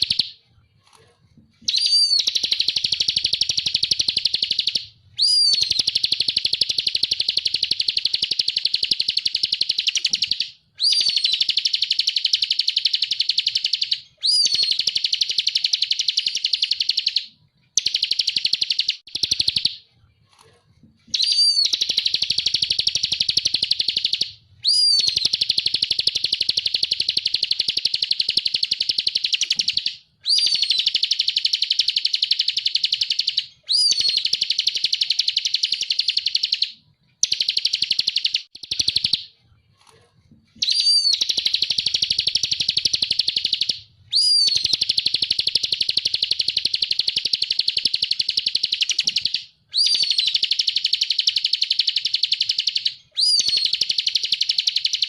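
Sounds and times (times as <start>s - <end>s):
bird singing high trills: 1.7s - 19.8s, 21.1s - 39.3s, 40.6s - 55.0s.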